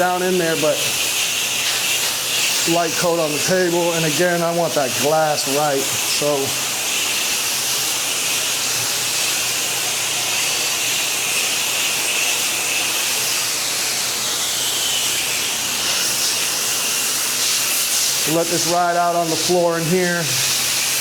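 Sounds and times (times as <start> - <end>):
spray wand hissing: 0.0 - 21.0.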